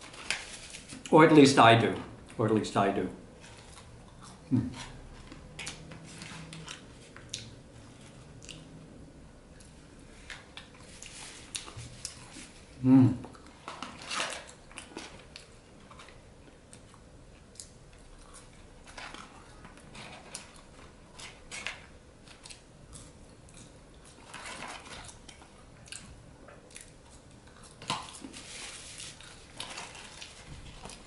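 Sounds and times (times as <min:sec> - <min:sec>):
person chewing: 0:03.4 - 0:08.9, 0:09.5 - 0:31.0.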